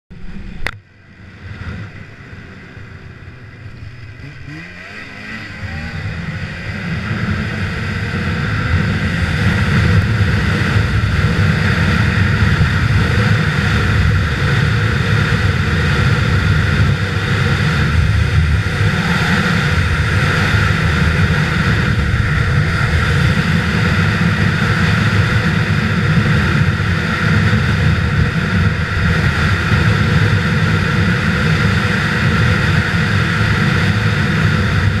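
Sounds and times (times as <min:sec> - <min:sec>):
snowmobile engine revving: 0:00.2 - 0:35.0.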